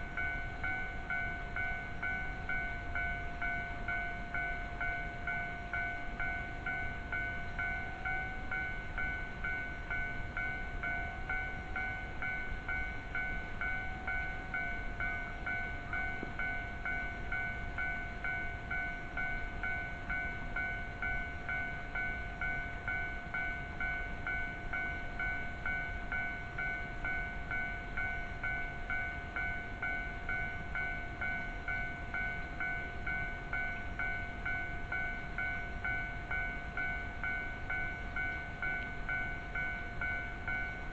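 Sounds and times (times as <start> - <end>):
level-crossing electronic bell dinging: 0.0 - 40.9.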